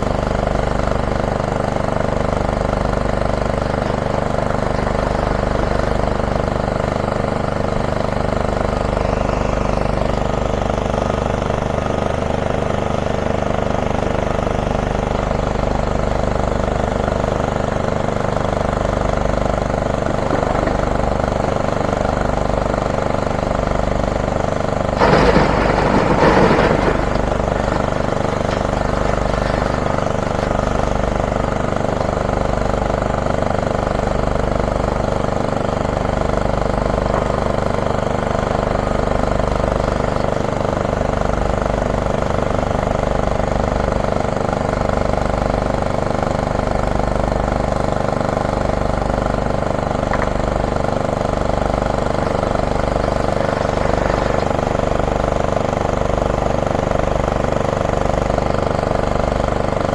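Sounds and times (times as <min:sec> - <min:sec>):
excavator engine running: 0:00.0 - 0:59.9
rubble crashing into truck bed: 0:01.7 - 0:11.4, 0:18.4 - 0:45.2, 0:47.7 - 0:59.9.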